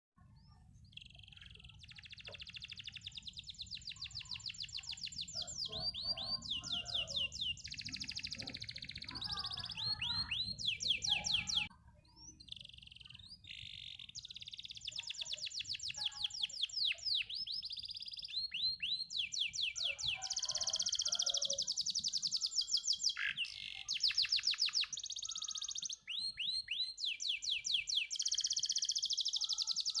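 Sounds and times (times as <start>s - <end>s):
canary singing fast trills: 0.2s - 30.0s.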